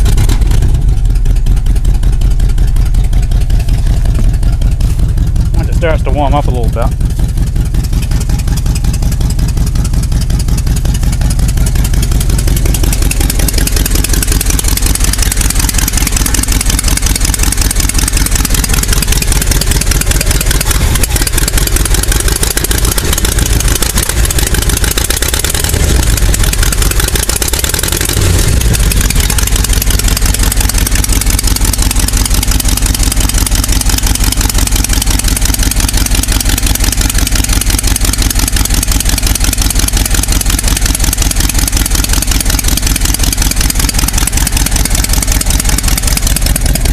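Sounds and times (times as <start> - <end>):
engine running with a skip: 0.0 - 46.9.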